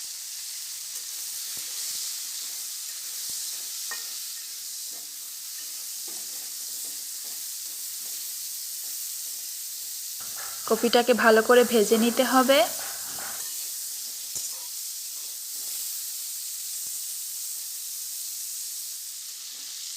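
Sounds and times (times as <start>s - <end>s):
vegetables sizzling in oil: 0.0s - 19.9s.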